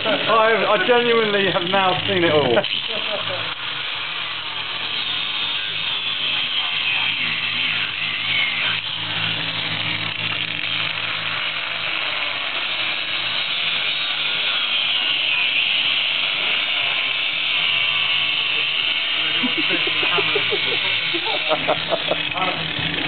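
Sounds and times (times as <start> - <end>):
angle grinder cutting coconut: 0.0 - 23.0.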